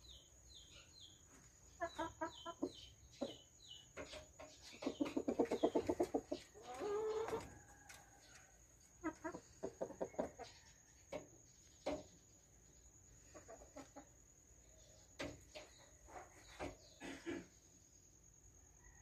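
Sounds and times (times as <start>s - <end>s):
chickens clucking: 0.9s - 17.8s.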